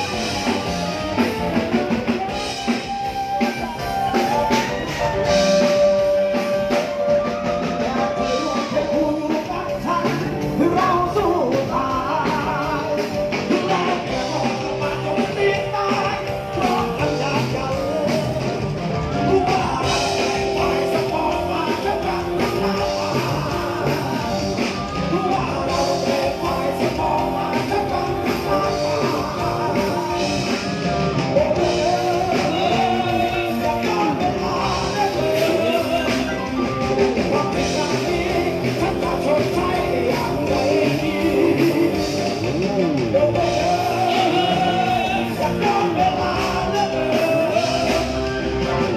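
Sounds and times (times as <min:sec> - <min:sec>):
drum kit: 0:00.0 - 0:48.9
electric guitar: 0:00.0 - 0:48.9
person singing: 0:00.0 - 0:48.9.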